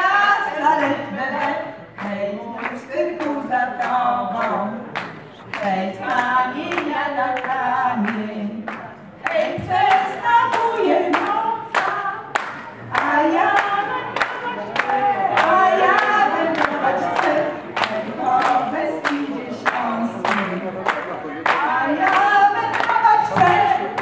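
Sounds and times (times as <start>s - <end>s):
women singing unaccompanied: 0.0s - 24.0s
handclaps: 0.8s - 24.0s.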